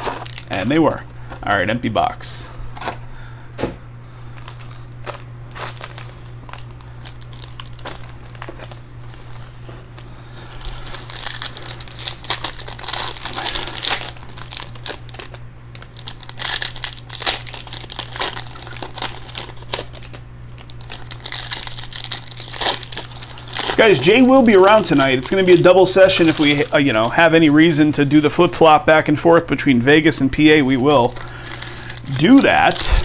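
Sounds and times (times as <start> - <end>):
foil wrappers crinkling: 0.0 - 1.6, 4.1 - 33.0.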